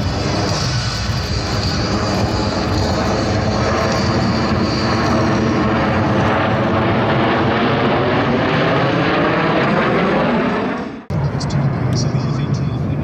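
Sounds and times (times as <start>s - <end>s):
aircraft engine roar: 0.0s - 13.0s.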